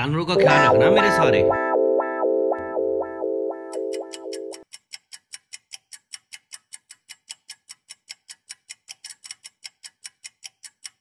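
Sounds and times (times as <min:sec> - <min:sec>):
clock ticking fast: 0:00.4 - 0:11.0.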